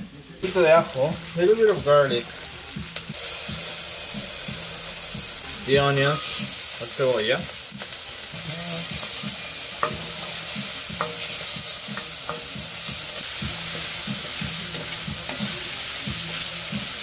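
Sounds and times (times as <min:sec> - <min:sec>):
onion and garlic sizzling: 0:00.0 - 0:17.0
bacon frying in a skillet: 0:00.4 - 0:17.0.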